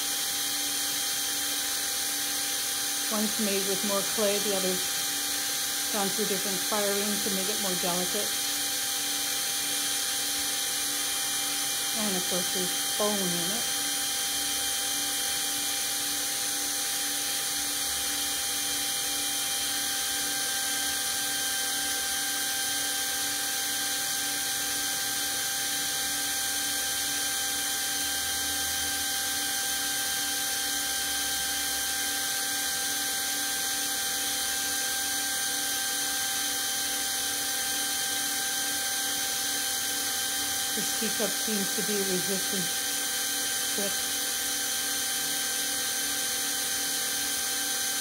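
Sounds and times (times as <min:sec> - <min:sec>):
drill grinding through porcelain: 0:00.0 - 0:48.0.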